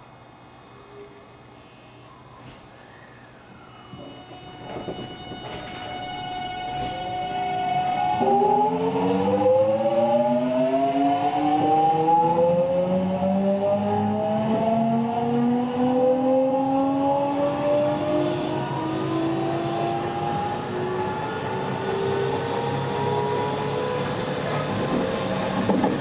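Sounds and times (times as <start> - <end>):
electric train motor whine: 2.0 - 26.0.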